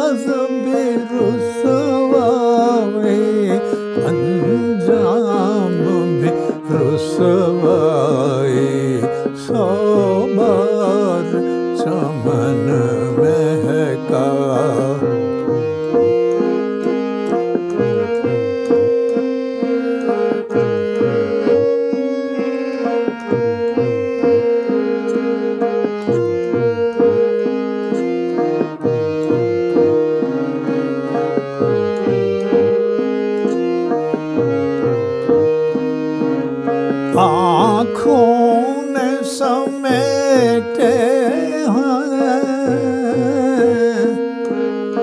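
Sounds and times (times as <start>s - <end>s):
harmonium melody: 0.0s - 45.0s.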